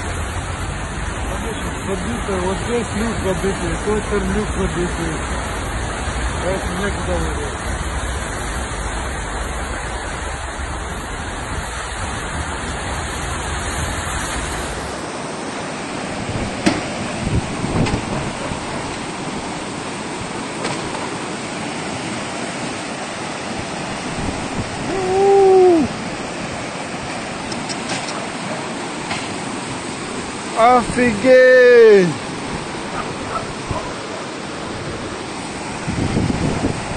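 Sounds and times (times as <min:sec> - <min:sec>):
floodwater and heavy rain rushing: 0:00.0 - 0:36.9.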